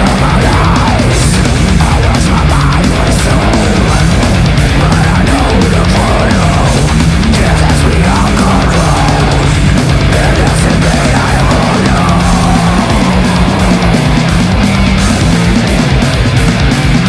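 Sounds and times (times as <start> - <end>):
heavy metal rock music: 0.0 - 17.0.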